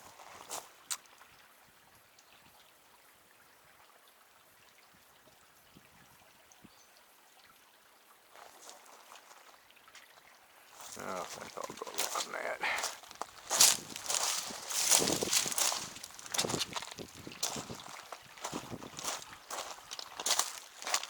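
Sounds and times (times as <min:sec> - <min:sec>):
creek trickling: 0:00.0 - 0:21.0.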